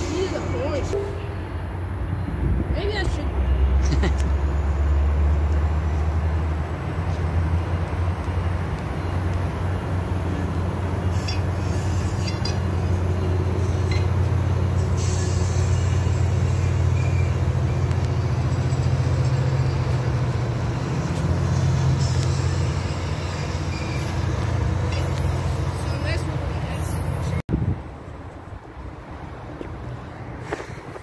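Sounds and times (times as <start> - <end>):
diesel locomotive rumbling: 0.0 - 31.0.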